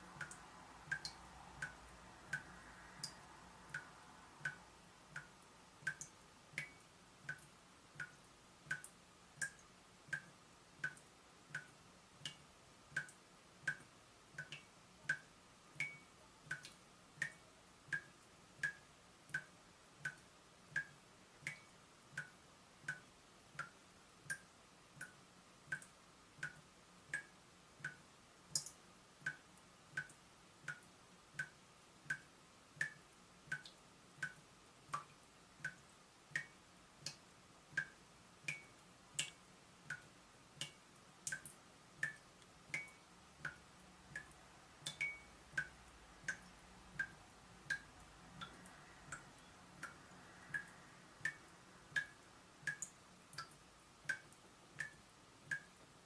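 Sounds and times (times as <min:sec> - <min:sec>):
water dripping from a tap: 0:00.1 - 0:56.0.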